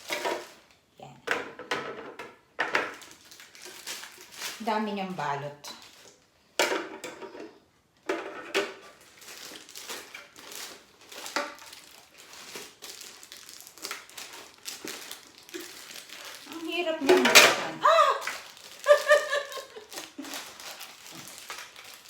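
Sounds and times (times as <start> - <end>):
packaging crinkling and rustling: 0.0 - 0.9, 2.6 - 6.4, 8.0 - 22.0.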